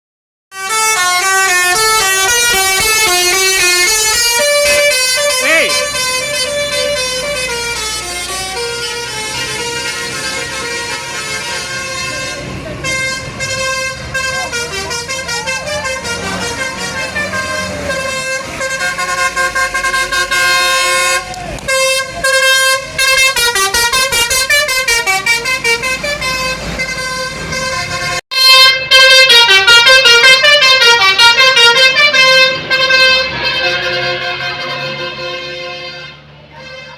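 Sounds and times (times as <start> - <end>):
multi-tone air horn playing a tune: 0.5 - 36.9.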